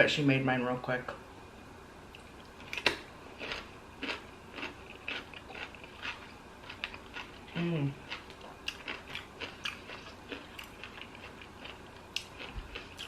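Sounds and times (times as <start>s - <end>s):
person chewing food wetly: 2.2s - 13.0s.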